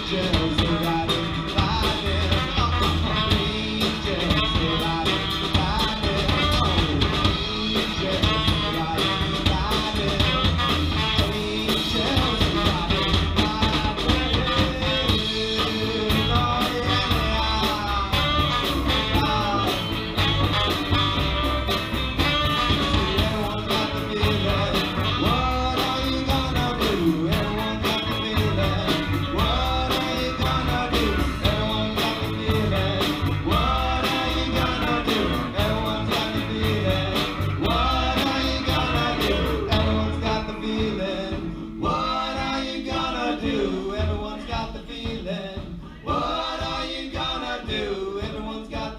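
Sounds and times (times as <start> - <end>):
live band playing: 0.0 - 48.9.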